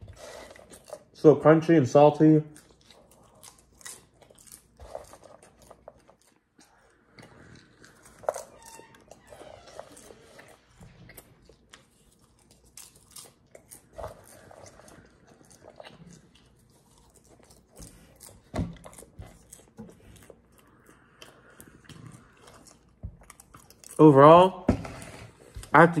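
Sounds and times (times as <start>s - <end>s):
person chewing popcorn: 0.0s - 24.4s.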